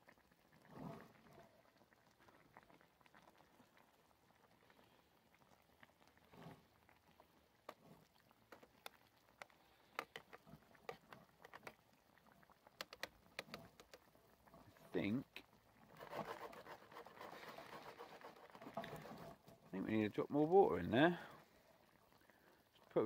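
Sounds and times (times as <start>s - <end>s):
stew simmering with pops: 0.0s - 23.0s.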